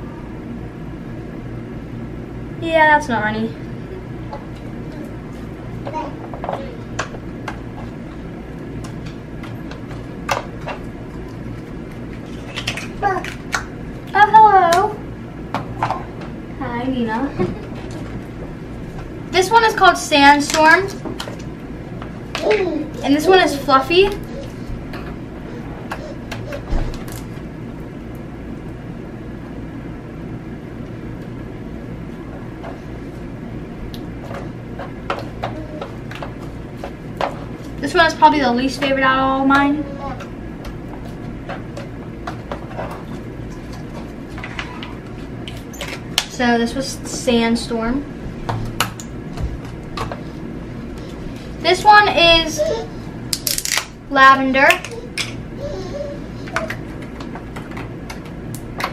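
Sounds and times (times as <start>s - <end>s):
low background hum: 0.0s - 58.9s.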